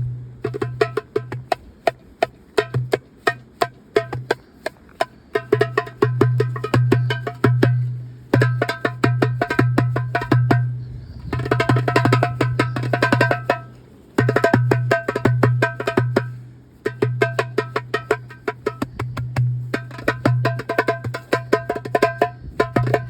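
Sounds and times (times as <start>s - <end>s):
goblet drum strokes: 0.0s - 23.0s.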